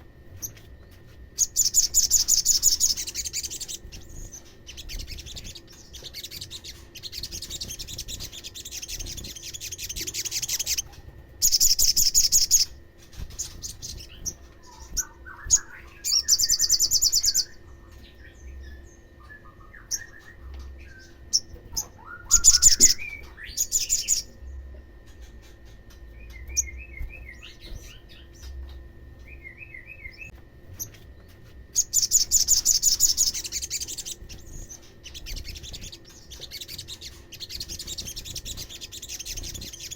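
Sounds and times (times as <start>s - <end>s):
bird singing high trills: 1.3s - 30.9s, 31.7s - 39.9s.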